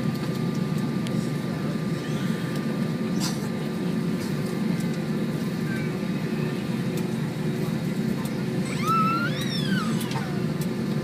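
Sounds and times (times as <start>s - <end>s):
jet engines and cabin air hum: 0.0s - 11.0s.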